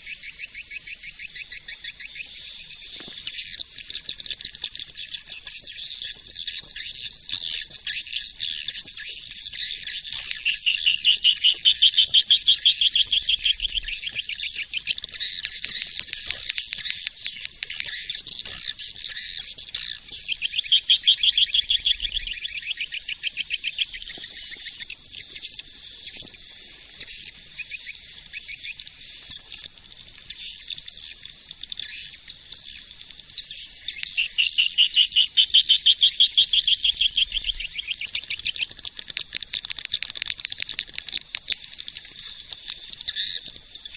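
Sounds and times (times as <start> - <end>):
high-pitched bird chattering trills: 0.1 - 26.4, 27.0 - 43.9.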